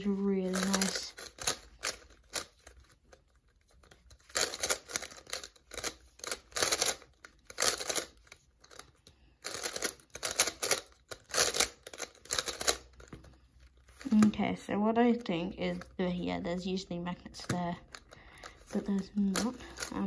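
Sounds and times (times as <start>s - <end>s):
plastic puzzle clacking: 0.0s - 16.0s, 17.3s - 20.0s.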